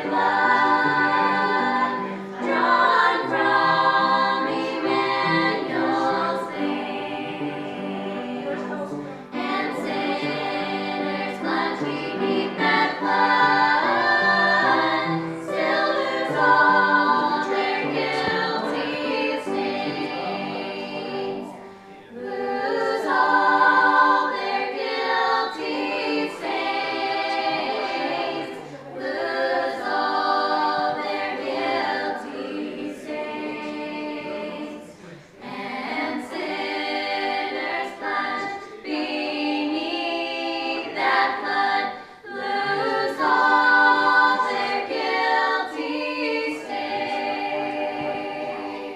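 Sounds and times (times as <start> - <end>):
women's choir singing unaccompanied: 0.0 - 48.9.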